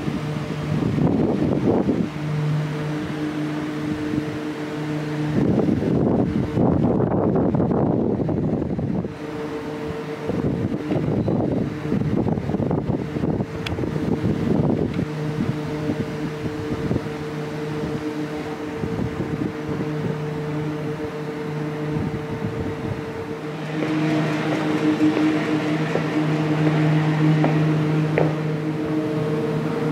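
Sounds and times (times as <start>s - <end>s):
low mechanical hum: 0.0s - 29.9s
wind buffeting microphone: 0.0s - 29.9s.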